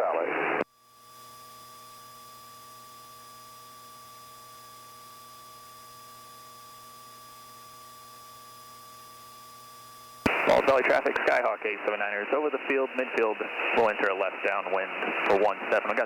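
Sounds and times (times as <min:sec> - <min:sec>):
faint electronic whine and hum: 0:00.0 - 0:16.0.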